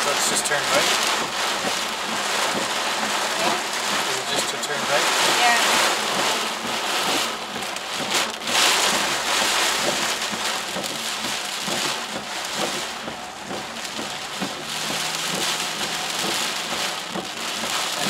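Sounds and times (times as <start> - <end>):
heavy rain on car windshield and roof: 0.0 - 18.0.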